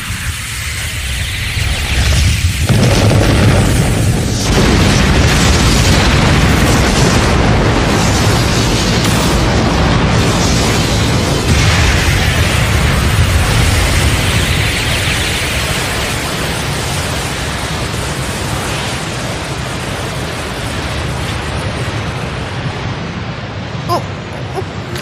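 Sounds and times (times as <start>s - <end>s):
explosion rumble with hiss: 0.0s - 25.0s.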